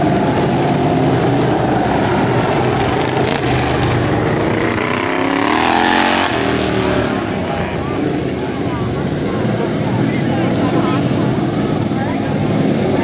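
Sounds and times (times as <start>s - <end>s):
lawn mower engines revving: 0.0s - 13.0s.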